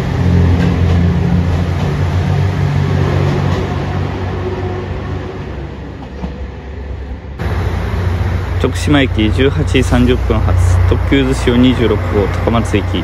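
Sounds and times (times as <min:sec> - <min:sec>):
diesel train engine drone: 0:00.0 - 0:13.0
rail running noise: 0:00.0 - 0:13.0.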